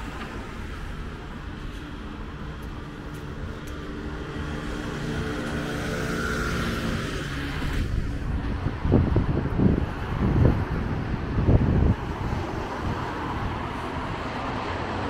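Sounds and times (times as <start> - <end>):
passing vehicle engine hum: 0.0 - 15.0.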